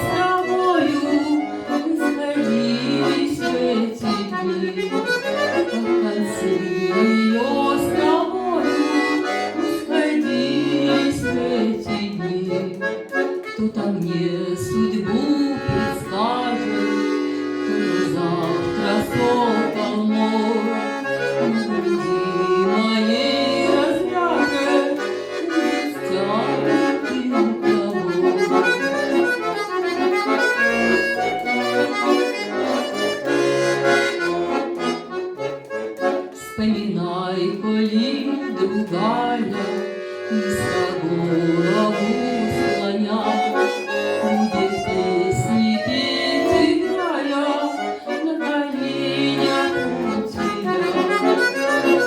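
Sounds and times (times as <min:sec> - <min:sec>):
accordion playing: 0:00.0 - 0:52.0
person singing: 0:00.0 - 0:52.0.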